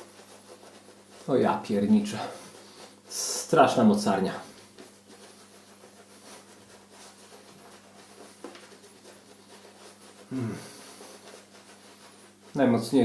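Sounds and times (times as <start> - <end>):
low electrical hum: 0.0 - 13.0
shaving brush rubbing lather: 0.0 - 13.0.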